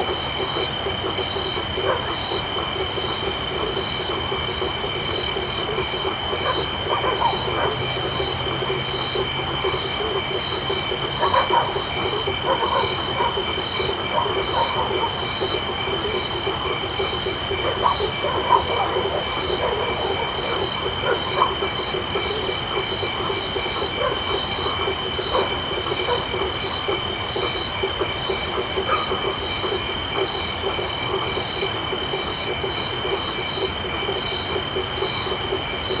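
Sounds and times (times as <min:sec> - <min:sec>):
frogs calling: 0:00.0 - 0:36.0
insects trilling: 0:00.0 - 0:36.0.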